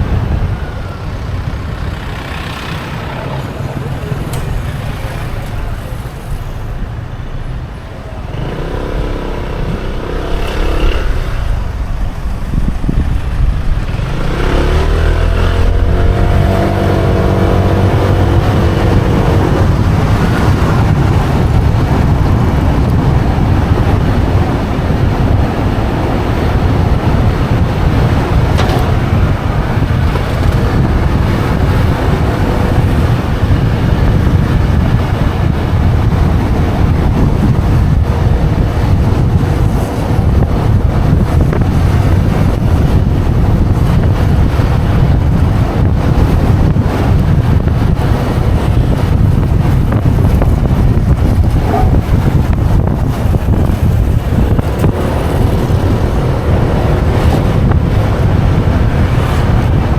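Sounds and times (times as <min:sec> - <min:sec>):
motorbike engine running: 0:00.0 - 0:59.9
wind rushing over microphone: 0:00.0 - 0:59.9.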